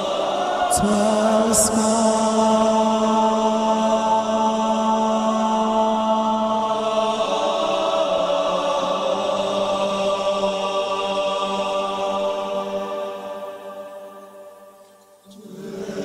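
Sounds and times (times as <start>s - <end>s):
male choir singing chords: 0.0s - 16.0s.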